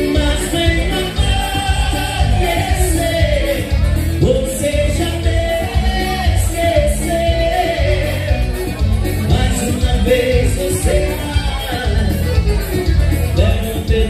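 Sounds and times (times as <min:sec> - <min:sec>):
person singing: 0:00.0 - 0:12.3, 0:13.3 - 0:14.0
live band dance music: 0:00.0 - 0:14.0.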